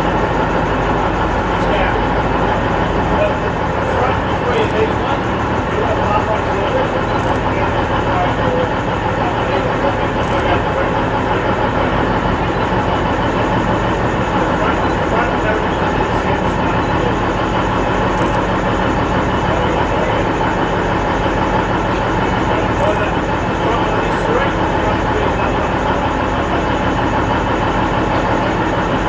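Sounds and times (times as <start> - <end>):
diesel train engines droning: 0.0 - 29.0.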